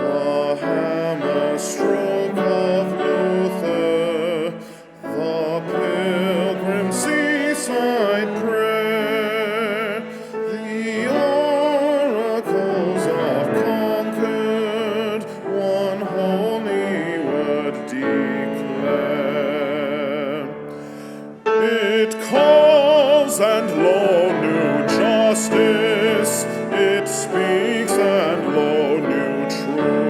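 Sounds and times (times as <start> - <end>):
cello: 0.0 - 30.0
congregation singing a hymn: 0.0 - 30.0
piano: 0.0 - 30.0.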